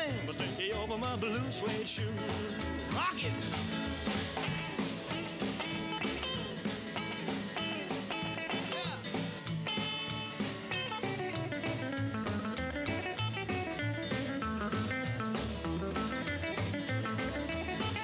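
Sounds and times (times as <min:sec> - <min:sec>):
lead guitar: 0:00.0 - 0:18.0
rock and roll music: 0:00.0 - 0:18.0.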